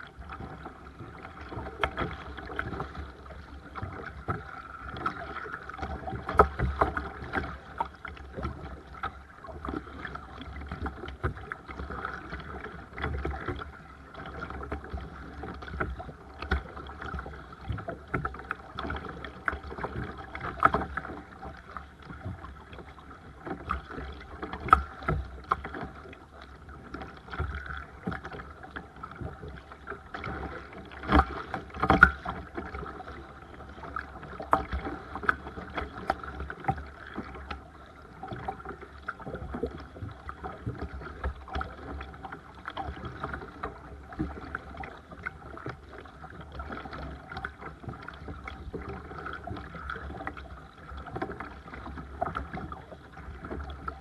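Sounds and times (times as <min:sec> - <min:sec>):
paddle splashing water: 0:00.0 - 0:54.0.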